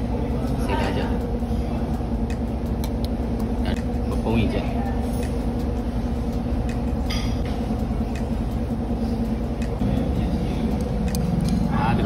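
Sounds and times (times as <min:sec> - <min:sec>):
low rumble and hum: 0:00.0 - 0:12.0.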